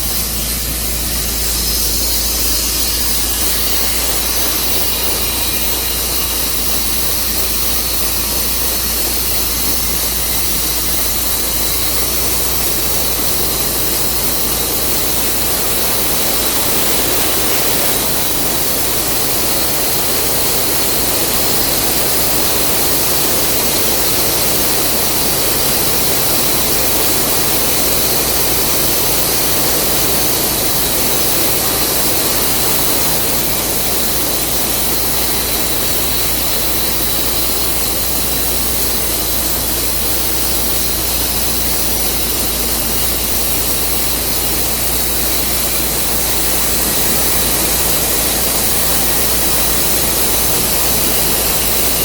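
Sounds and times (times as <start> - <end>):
sawmill cutting log: 0.0 - 52.0.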